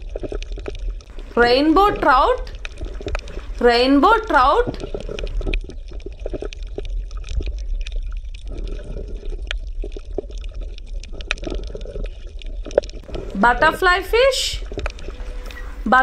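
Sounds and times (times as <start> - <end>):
water gurgling and bubbling: 0.0 - 16.0.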